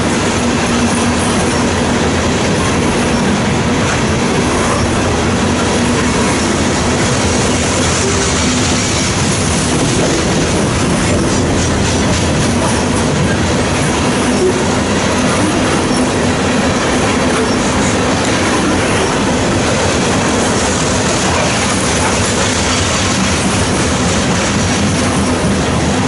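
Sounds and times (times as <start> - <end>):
freight train wheels rumbling on rails: 0.0 - 26.0.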